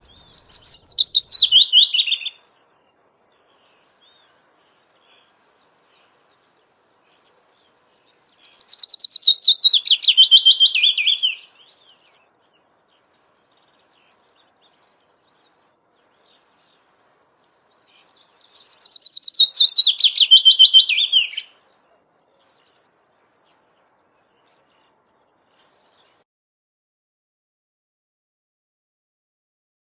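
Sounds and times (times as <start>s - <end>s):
songbird singing: 0.0s - 26.2s.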